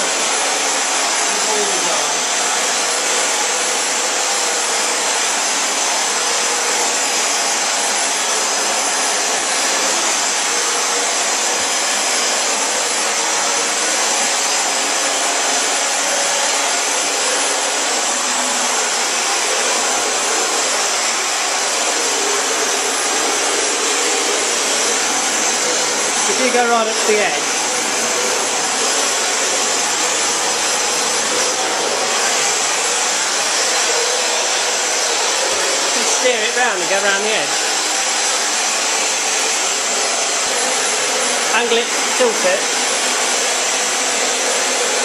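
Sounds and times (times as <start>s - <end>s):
upright vacuum cleaner running: 0.0s - 45.0s.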